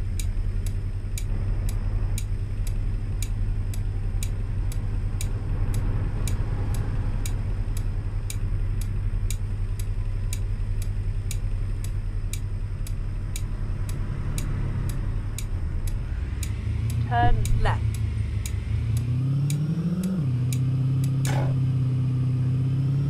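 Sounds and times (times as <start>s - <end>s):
turn signal clicking: 0.0s - 21.8s
engine and road rumble: 0.0s - 23.0s.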